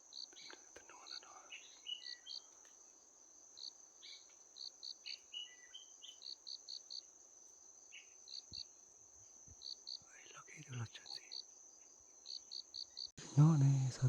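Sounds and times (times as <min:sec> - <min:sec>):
bird chirping: 0:00.0 - 0:02.8, 0:03.6 - 0:07.0, 0:07.8 - 0:08.8, 0:09.5 - 0:14.0
insects droning: 0:00.0 - 0:14.0.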